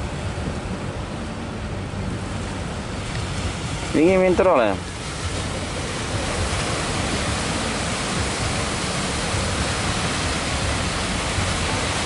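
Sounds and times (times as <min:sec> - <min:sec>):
surf and floodwater rushing: 0:00.0 - 0:12.0.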